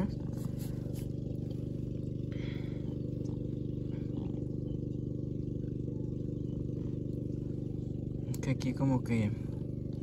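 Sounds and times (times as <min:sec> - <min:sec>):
motor running drone: 0:00.0 - 0:10.0.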